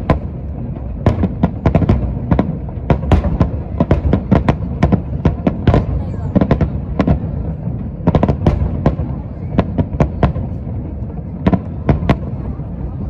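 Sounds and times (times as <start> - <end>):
fireworks bangs: 0.0 - 13.0
rumble of explosions: 0.0 - 13.0.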